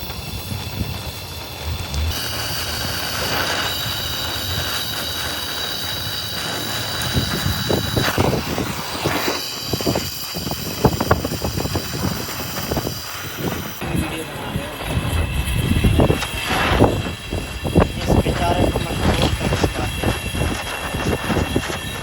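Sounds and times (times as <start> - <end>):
machine high whine: 0.0 - 22.0.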